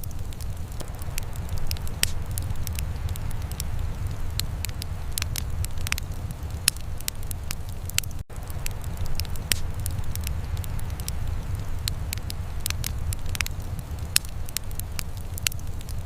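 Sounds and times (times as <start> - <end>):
low rumble of fire: 0.0 - 16.0
wood fire crackling and popping: 0.0 - 16.0.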